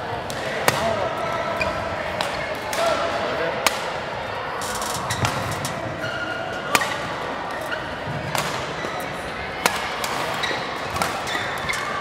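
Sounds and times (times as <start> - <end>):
sports hall background noise: 0.0 - 12.0
rackets hitting shuttlecock: 0.2 - 4.0, 5.0 - 12.0.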